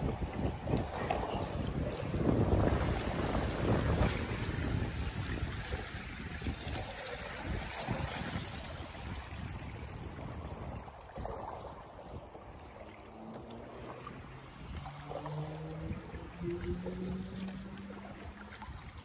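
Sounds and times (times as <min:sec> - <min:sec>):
paddle strokes in water: 0:00.0 - 0:19.0
water rushing around kayak hull: 0:00.0 - 0:19.0.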